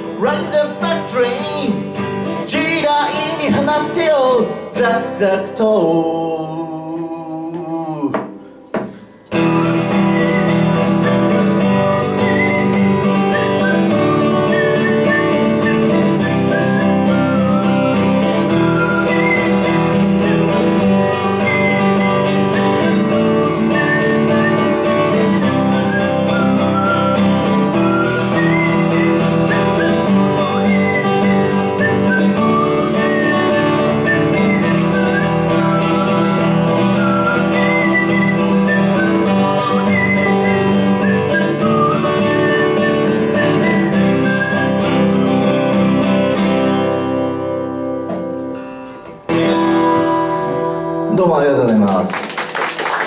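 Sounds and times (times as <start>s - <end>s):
acoustic guitar strumming: 0.0s - 51.9s.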